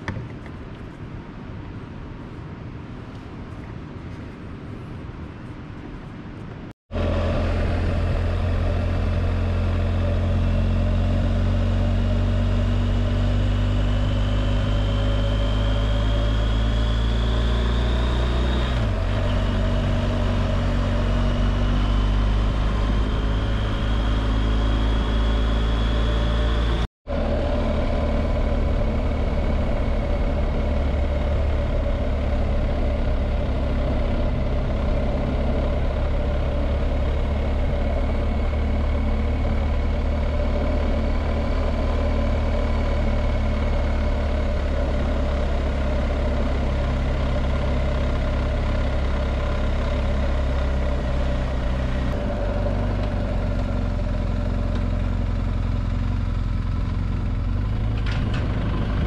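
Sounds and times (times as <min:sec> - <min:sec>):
road noise: 0:00.0 - 0:59.0
wind: 0:00.0 - 0:59.0
motorcycle engine running: 0:06.9 - 0:59.0.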